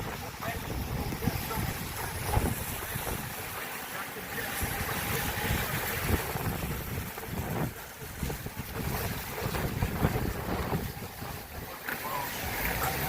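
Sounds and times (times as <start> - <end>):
steady rush of air: 0.0 - 12.7
wind buffeting microphone: 0.0 - 13.0.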